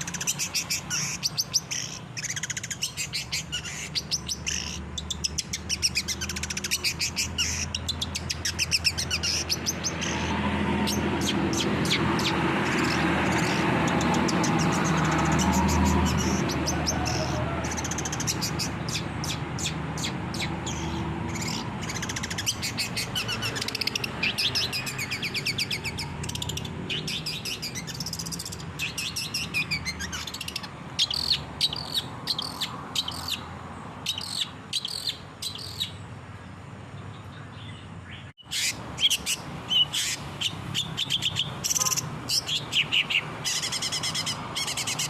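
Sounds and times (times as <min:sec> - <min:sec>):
shrike chattering song: 0:00.0 - 0:36.0, 0:38.1 - 0:45.0
sharp bird calls: 0:00.0 - 0:45.0.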